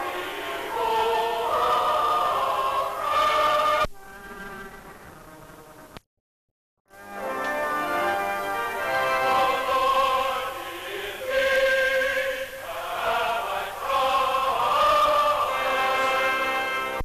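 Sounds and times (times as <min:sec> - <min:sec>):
church choir singing: 0:00.0 - 0:03.9, 0:07.2 - 0:17.0.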